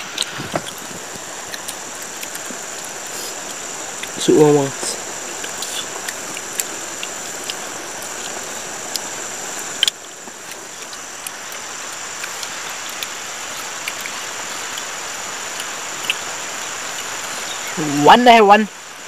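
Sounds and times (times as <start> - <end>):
even hiss: 0.0 - 19.0
insects droning: 0.0 - 19.0.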